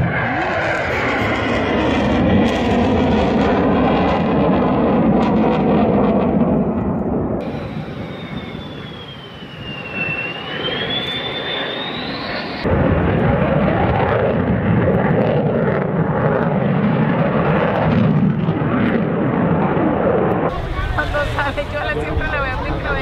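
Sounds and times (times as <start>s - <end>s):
fighter jet noise: 0.0s - 23.0s
jet airliner passing low: 0.0s - 23.0s.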